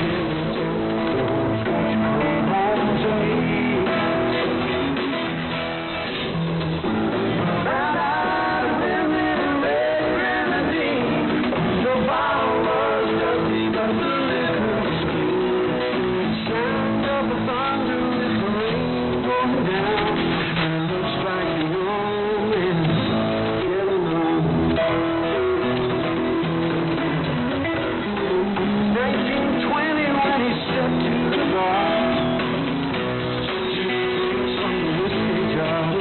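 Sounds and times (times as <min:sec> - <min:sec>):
song with guitar and singing: 0:00.0 - 0:36.0.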